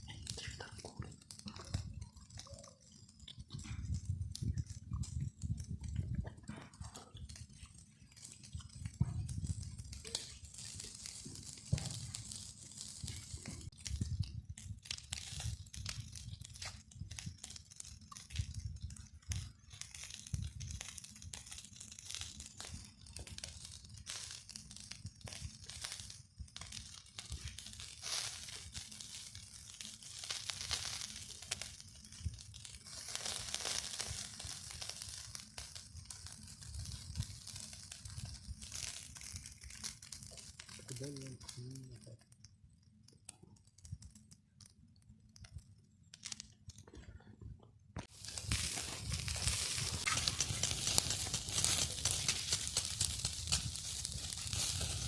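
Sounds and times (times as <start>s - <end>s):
crackling and rustling: 0.0s - 55.0s.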